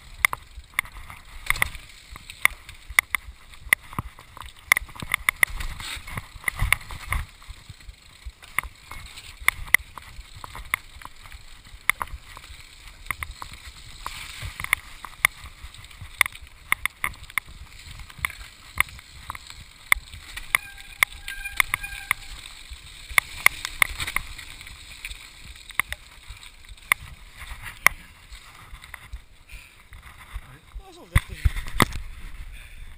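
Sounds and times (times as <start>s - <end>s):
bike knocking and rattling: 0.0s - 32.9s
tyre and wind noise: 0.0s - 32.9s.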